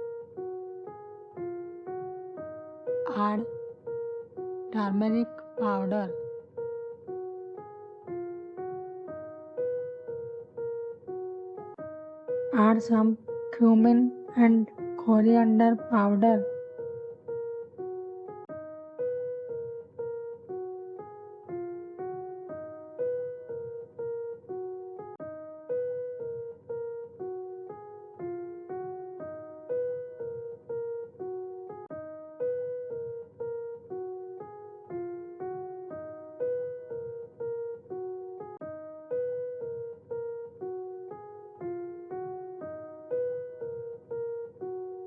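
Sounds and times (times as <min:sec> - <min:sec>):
gentle piano phrase: 0:00.0 - 0:45.0.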